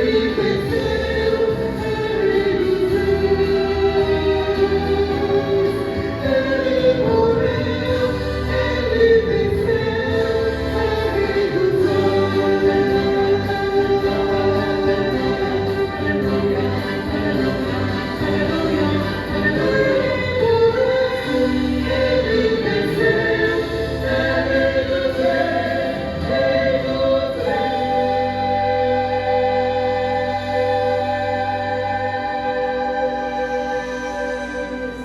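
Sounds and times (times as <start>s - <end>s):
vocal ensemble singing in harmony: 0.0s - 35.0s.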